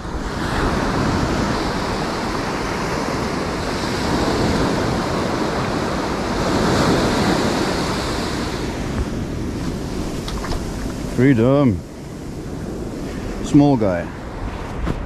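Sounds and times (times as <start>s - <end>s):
ocean surf washing ashore: 0.0s - 15.0s
wind rumbling on microphone: 0.0s - 15.0s.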